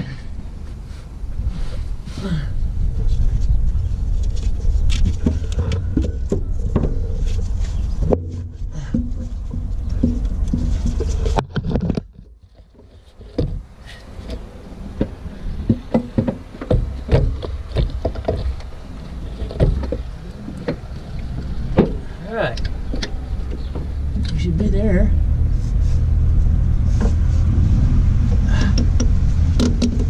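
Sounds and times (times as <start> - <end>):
low rumble: 0.0 - 30.0.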